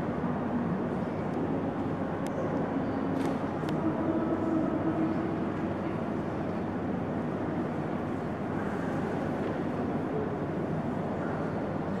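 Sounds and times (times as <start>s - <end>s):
hall room noise: 0.0s - 12.0s.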